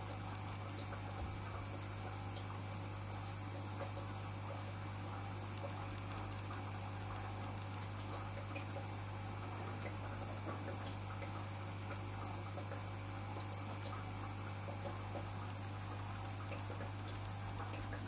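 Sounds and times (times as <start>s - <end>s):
faint drips and ticks: 0.0s - 18.0s
filter pump humming: 0.0s - 18.0s
water trickling: 0.0s - 18.0s.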